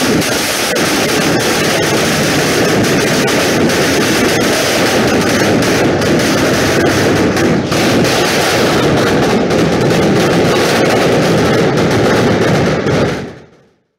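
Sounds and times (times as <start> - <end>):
fireworks and firecrackers banging: 0.0 - 13.9.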